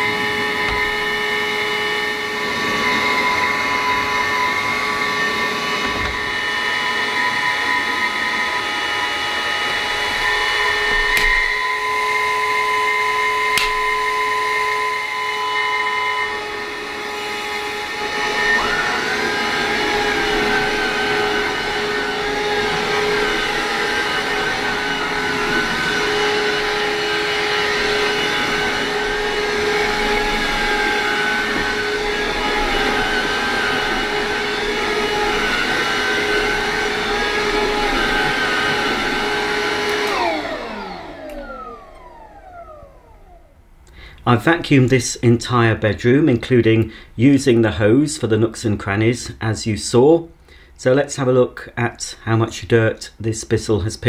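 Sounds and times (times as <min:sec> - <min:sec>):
vacuum cleaner motor whine: 0:00.0 - 0:43.8.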